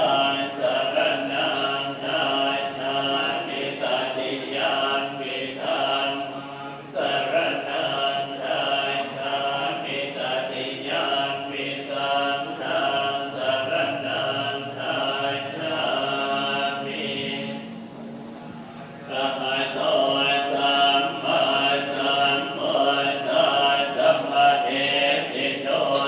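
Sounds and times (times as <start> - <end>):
voices chanting in unison: 0.0 - 26.0.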